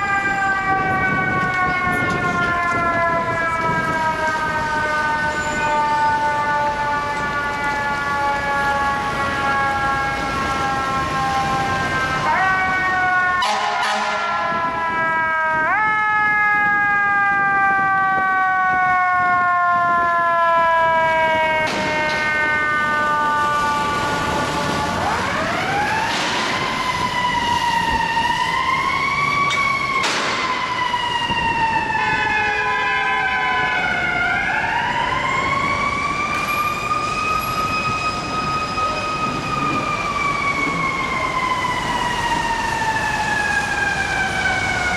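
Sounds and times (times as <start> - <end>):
fire engine siren wailing: 0.0 - 44.9
traffic noise: 0.0 - 44.9.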